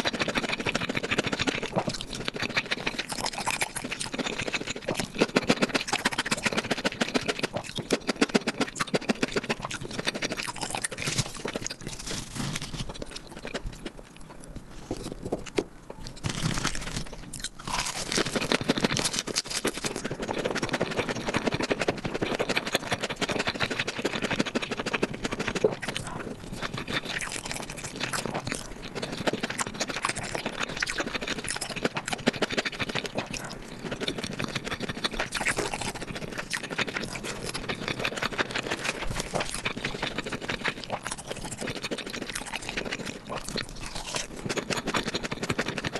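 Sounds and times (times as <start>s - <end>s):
wet chewing and crunching: 0.0s - 45.9s.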